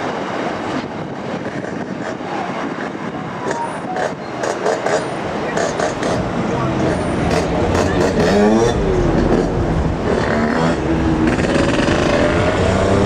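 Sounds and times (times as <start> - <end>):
freight train rumbling along track: 0.0 - 13.0
road vehicles passing: 0.0 - 13.0.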